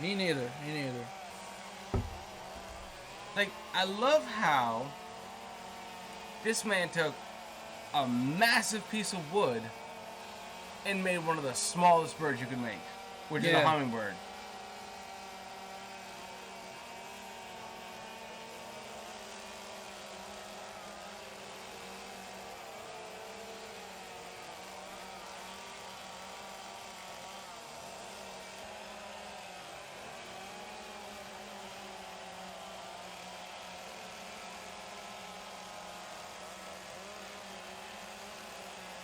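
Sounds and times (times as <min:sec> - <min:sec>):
chainsaws cutting wood: 0:00.0 - 0:39.0.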